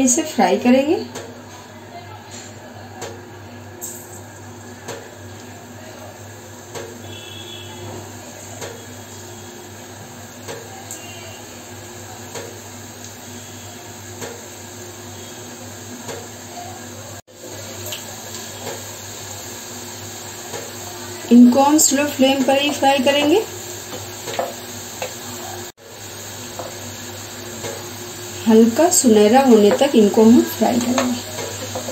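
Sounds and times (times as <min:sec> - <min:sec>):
dough sizzling in hot oil: 0:02.3 - 0:31.9.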